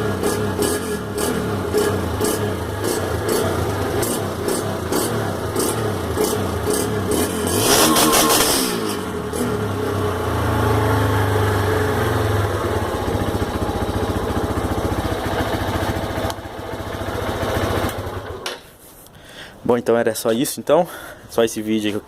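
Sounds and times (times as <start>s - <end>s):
motorcycle engine revving and idling: 0.0s - 18.5s.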